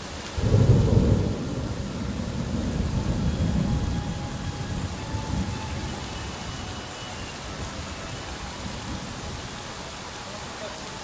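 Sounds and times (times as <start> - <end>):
thunder rumble: 0.0 - 10.3
heavy rain pouring: 0.0 - 11.0.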